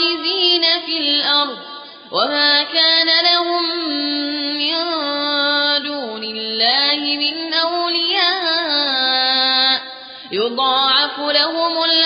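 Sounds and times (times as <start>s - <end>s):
young man chanting: 0.0s - 12.0s.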